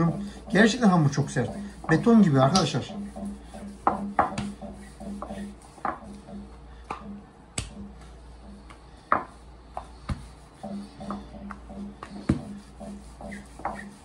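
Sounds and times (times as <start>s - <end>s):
rolling pin knocking on dough: 0.0s - 14.0s.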